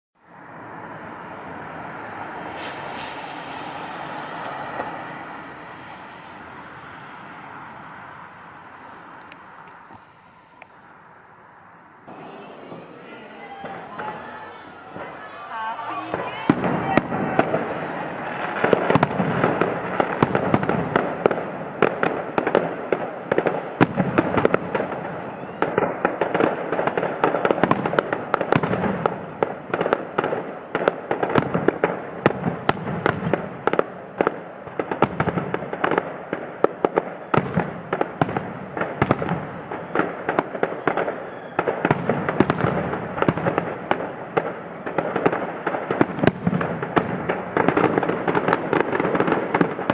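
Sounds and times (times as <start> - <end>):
fireworks bangs and crackling: 0.3 - 49.9.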